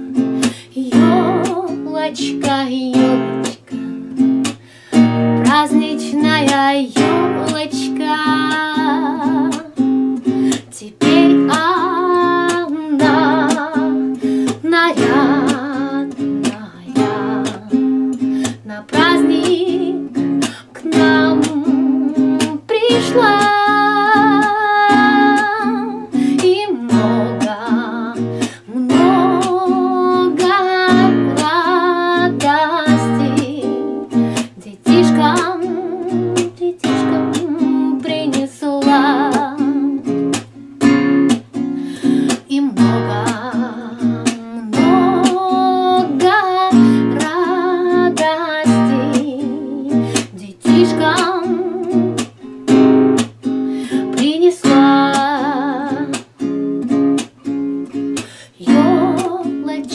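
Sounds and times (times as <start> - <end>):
woman singing: 0.0 - 41.4, 42.0 - 56.6, 57.9 - 59.9
strummed classical guitar: 0.0 - 59.9.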